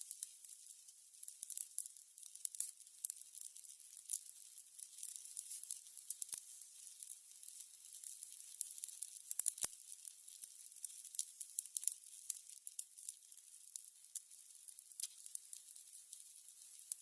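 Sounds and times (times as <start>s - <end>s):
candles crackling: 0.0s - 17.0s.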